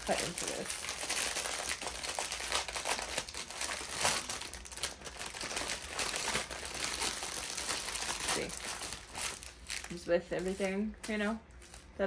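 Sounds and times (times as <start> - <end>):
package crinkling: 0.0 - 12.0.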